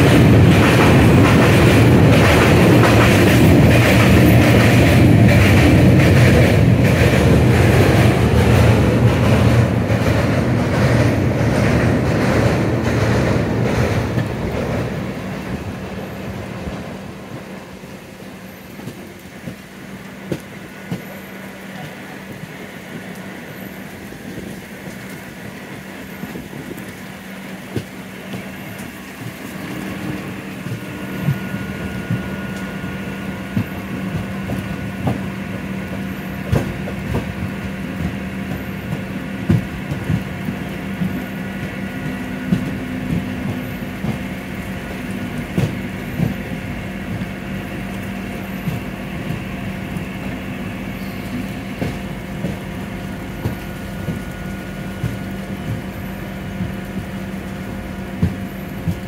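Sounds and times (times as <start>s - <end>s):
train wheels knocking over rail joints: 0.0s - 17.6s, 18.2s - 59.0s
train rumble and wheel clatter: 0.0s - 59.0s.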